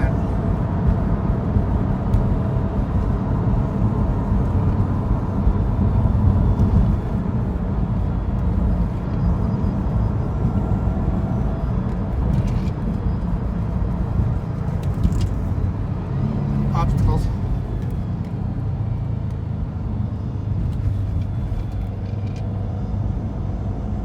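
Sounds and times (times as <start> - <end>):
car engine low rumble: 0.0 - 24.0
road noise: 0.0 - 24.0.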